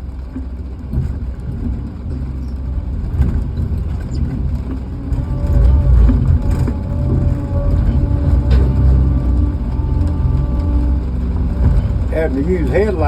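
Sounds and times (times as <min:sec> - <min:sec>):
vehicle engine running: 0:00.0 - 0:13.0
light engine knocks: 0:00.3 - 0:13.0.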